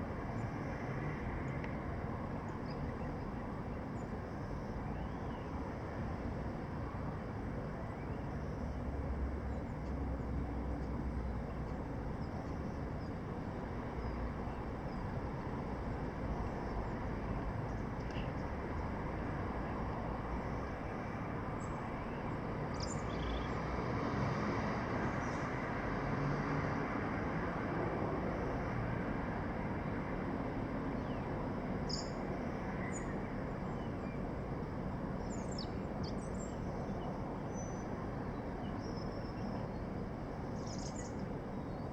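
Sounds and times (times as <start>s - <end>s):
city traffic rumble: 0.0s - 41.9s.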